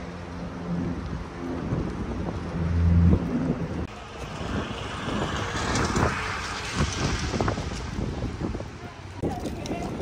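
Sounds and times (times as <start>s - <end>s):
low rumbling motor: 0.0s - 9.2s
wind buffeting microphone: 0.4s - 10.0s.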